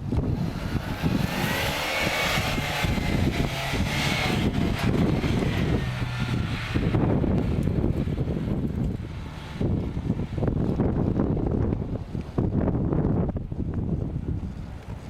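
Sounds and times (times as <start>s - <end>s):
engine whine: 0.0s - 15.0s
off-road vehicle engine running hard: 0.0s - 15.0s.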